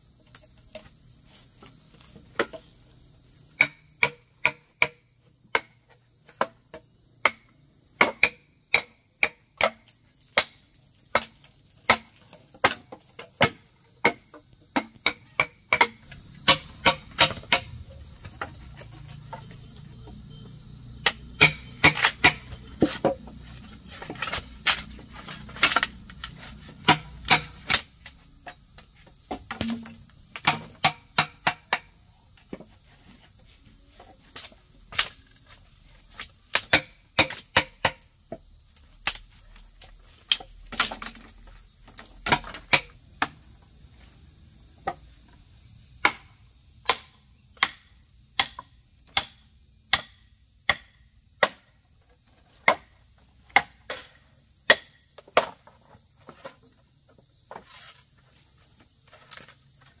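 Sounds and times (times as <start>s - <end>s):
insects droning: 0.0s - 60.0s.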